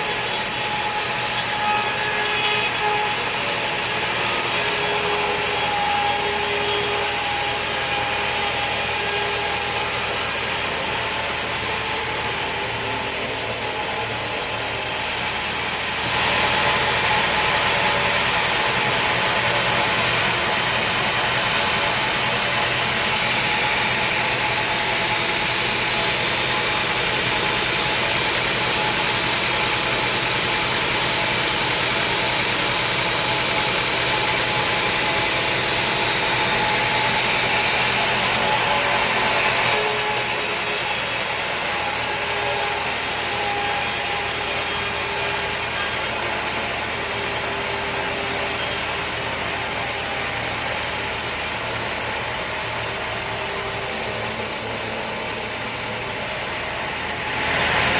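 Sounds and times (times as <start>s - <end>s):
sawmill machinery rattling: 0.0s - 57.9s.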